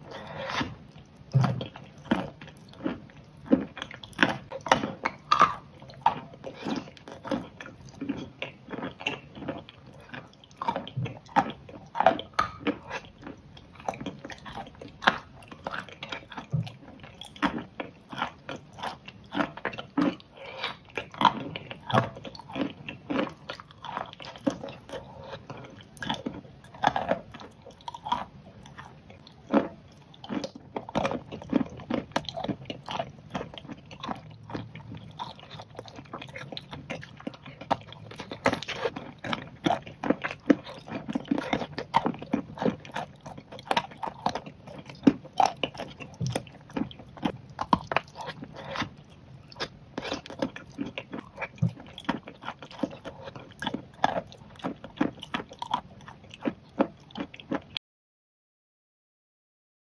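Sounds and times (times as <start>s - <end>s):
person biting and chewing: 0.0s - 57.8s.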